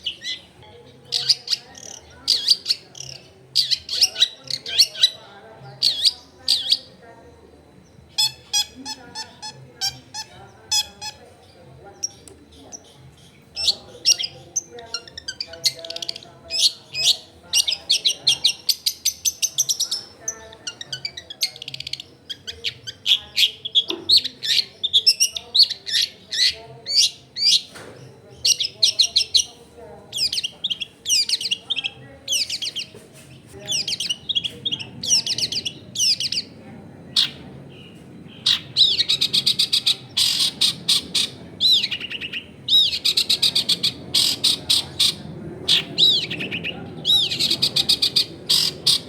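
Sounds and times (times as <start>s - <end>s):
shrike trilling and calling: 0.0s - 49.0s.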